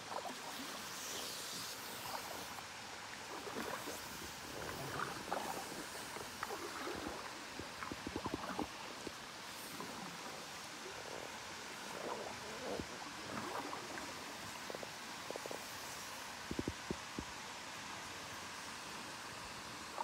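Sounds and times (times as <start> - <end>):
paddle splashing water: 0.0 - 17.4
faint hiss: 0.0 - 20.0.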